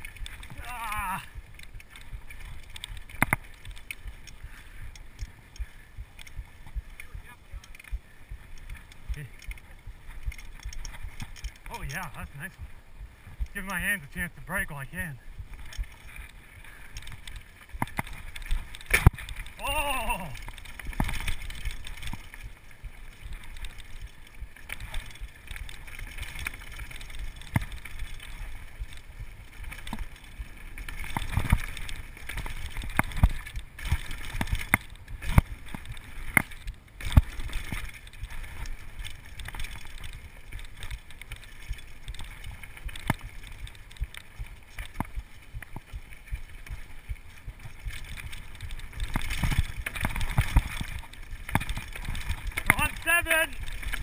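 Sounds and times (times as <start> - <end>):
tyres rumbling on trail: 0.0 - 54.0.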